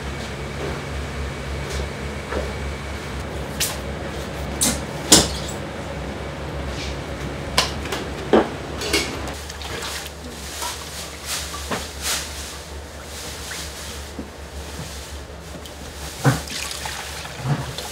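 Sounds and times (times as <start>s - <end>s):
ventilation hum: 0.0s - 17.9s.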